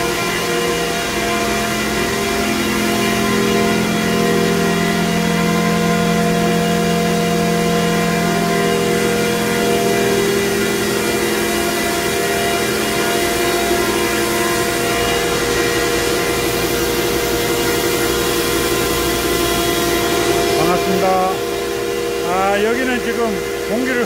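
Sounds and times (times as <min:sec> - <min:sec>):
humming tones: 0:00.0 - 0:24.0
industrial machinery drone: 0:00.0 - 0:24.0.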